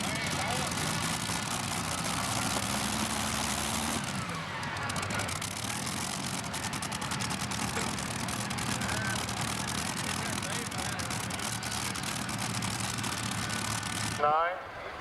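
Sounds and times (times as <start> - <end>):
engine deep drone: 0.0 - 14.9.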